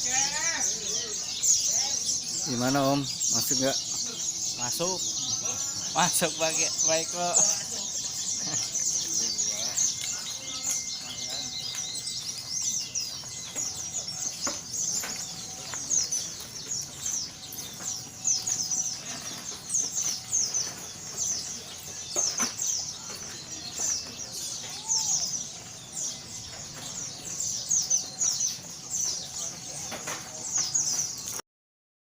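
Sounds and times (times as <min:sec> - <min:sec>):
birds chirping and trilling: 0:00.0 - 0:31.4.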